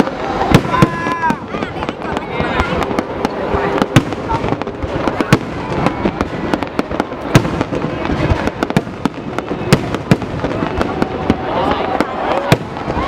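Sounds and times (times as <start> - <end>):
fireworks bangs and pops: 0.0 - 13.0
fireworks crackle: 0.0 - 13.0.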